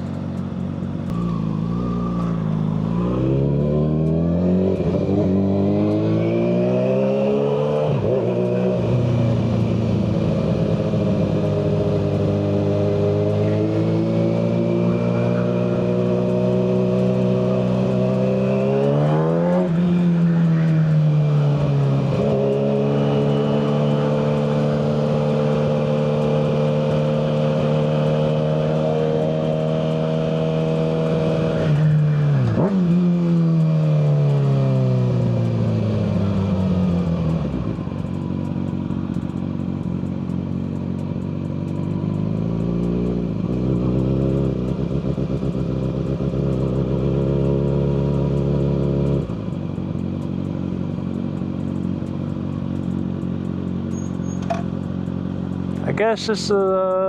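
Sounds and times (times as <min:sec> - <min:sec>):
motorcycle engine while riding: 0:00.0 - 0:57.0.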